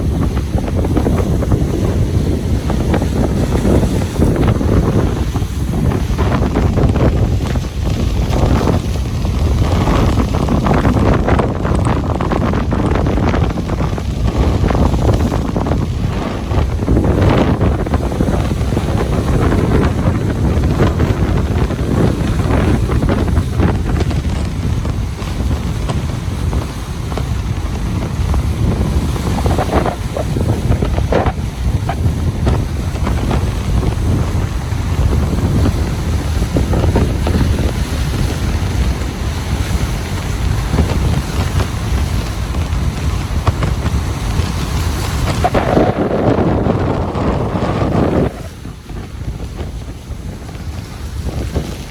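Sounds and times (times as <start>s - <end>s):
ocean surf breaking: 0.0s - 51.9s
wind buffeting microphone: 0.0s - 51.9s.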